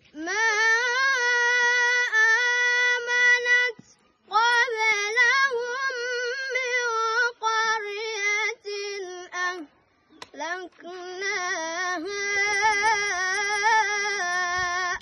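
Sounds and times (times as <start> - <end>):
boy chanting melodically: 0.1 - 15.0.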